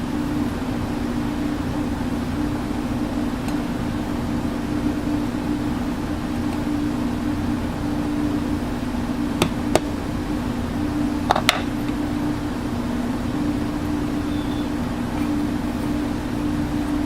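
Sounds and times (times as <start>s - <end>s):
golf cart engine droning: 0.0s - 17.0s.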